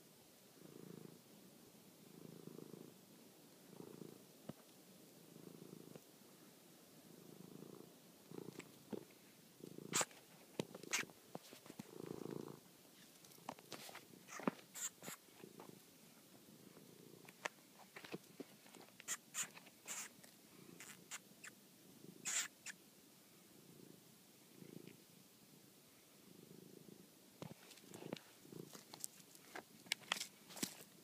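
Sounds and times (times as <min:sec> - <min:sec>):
cat purring: 0:00.5 - 0:01.3, 0:02.0 - 0:04.3, 0:05.1 - 0:25.2, 0:25.9 - 0:29.6.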